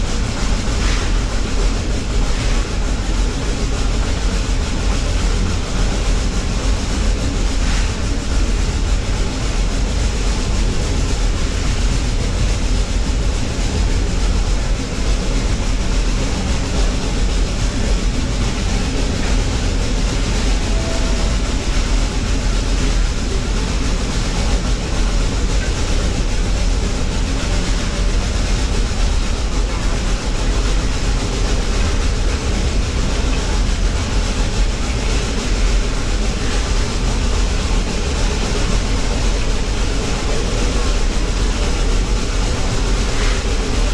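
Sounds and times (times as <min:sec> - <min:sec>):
moving train rumble: 0:00.0 - 0:43.9.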